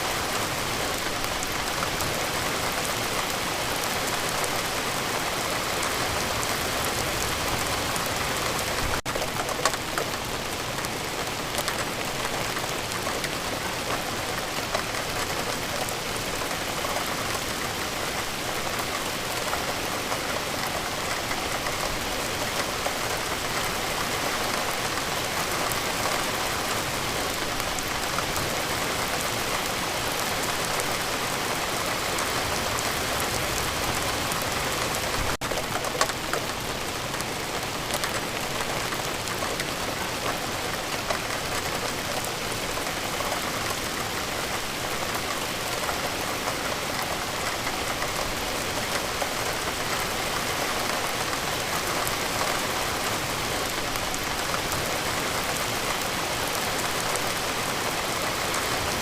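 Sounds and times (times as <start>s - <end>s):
rain falling: 0.0s - 59.0s
raindrop ticks: 5.6s - 31.1s, 32.0s - 58.9s.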